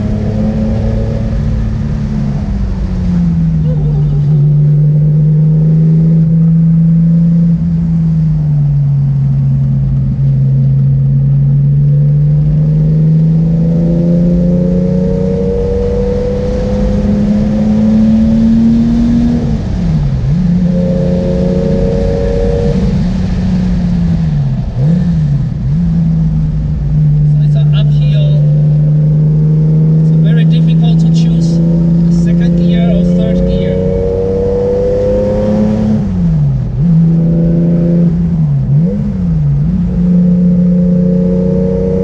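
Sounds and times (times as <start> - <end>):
car engine from inside cabin: 0.0 - 42.0.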